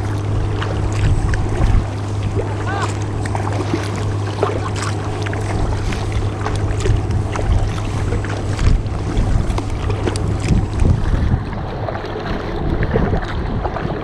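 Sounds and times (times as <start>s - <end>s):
steady low hum: 0.0s - 14.0s
water splashing around kayak: 0.0s - 14.0s.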